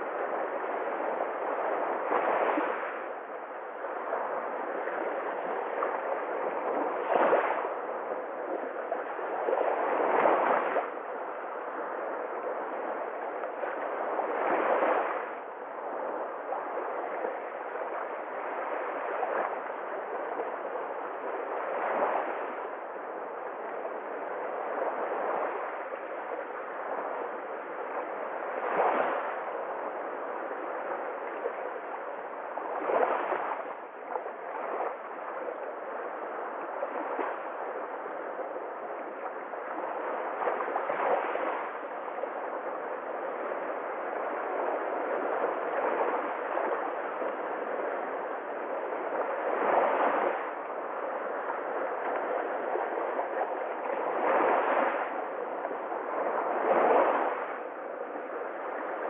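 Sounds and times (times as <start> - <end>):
small sea waves lapping at shore: 0.0 - 59.0.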